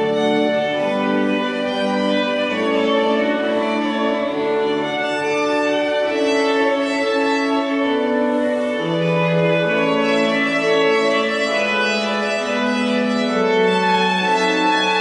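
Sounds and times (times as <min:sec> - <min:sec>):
organ accompaniment: 0:00.0 - 0:15.0
violin playing slow piece: 0:00.0 - 0:15.0.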